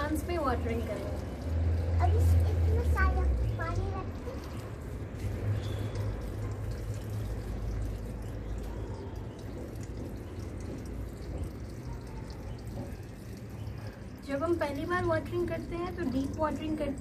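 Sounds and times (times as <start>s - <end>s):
water pouring onto soil: 0.0s - 17.0s.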